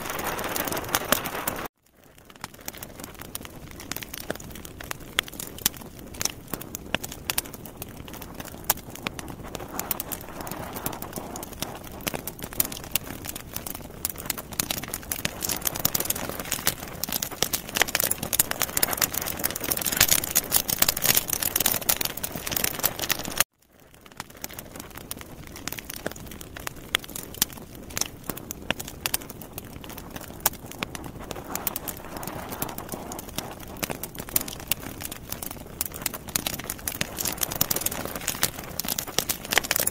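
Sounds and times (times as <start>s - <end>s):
sausages sizzling over charcoal: 0.0s - 39.9s.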